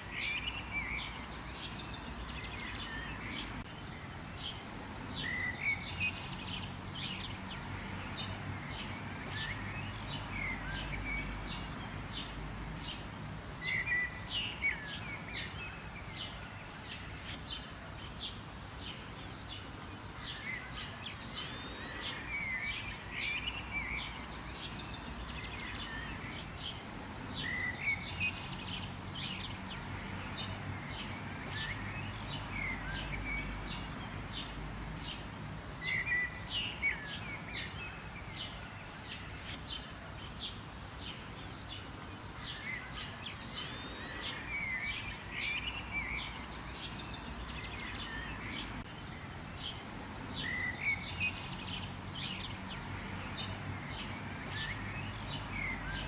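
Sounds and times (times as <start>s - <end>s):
birds chirping: 0.0s - 56.0s
low background noise: 0.0s - 56.0s.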